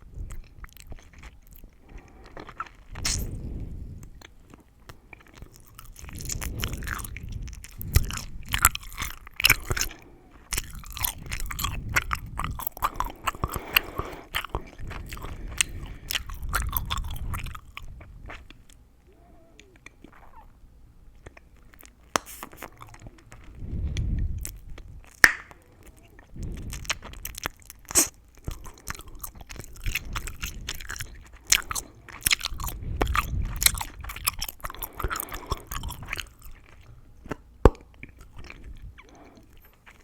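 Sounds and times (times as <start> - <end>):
gum chewing wet clicks: 0.2 - 3.4, 4.0 - 18.8, 21.1 - 40.0.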